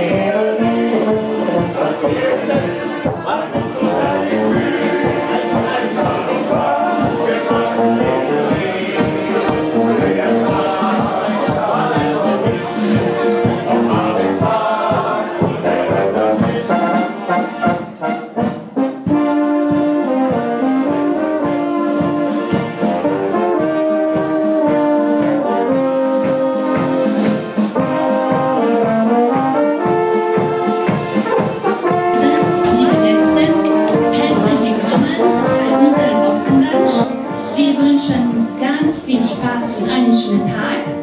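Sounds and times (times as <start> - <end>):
accordion: 0.0 - 41.0
brass horn melody: 0.0 - 41.0
steady beat: 0.0 - 41.0.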